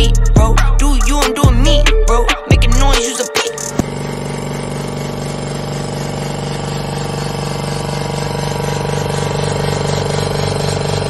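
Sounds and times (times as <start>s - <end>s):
air compressor humming: 1.4s - 11.0s.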